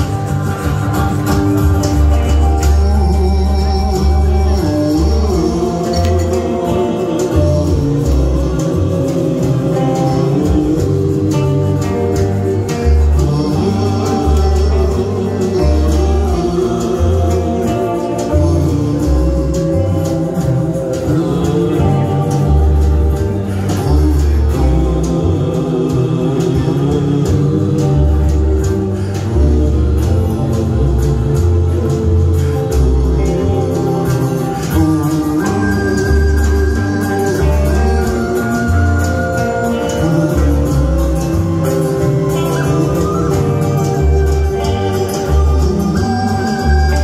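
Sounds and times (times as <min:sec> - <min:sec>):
live band playing: 0:00.0 - 0:47.0
pulsing bass line: 0:00.0 - 0:47.0.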